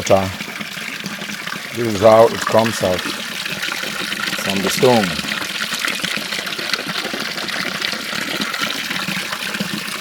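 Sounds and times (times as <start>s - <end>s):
spring water gushing: 0.0s - 10.0s.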